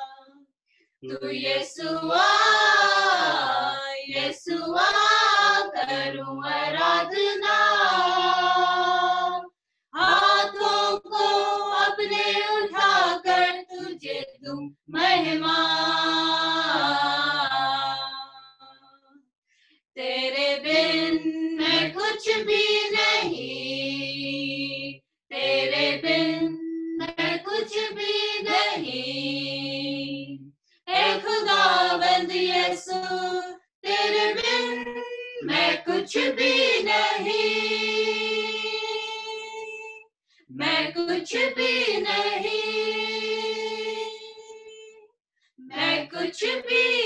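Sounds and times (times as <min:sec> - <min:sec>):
women singing a cappella: 0:01.1 - 0:18.5, 0:20.0 - 0:45.0, 0:45.6 - 0:47.0.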